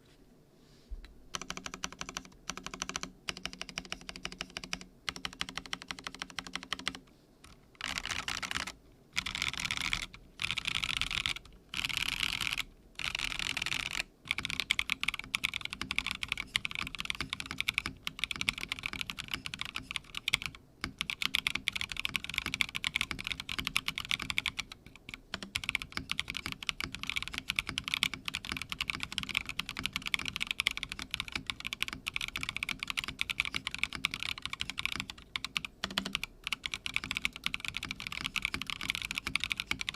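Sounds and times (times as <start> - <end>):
mechanical keyboard typing: 1.3 - 39.9.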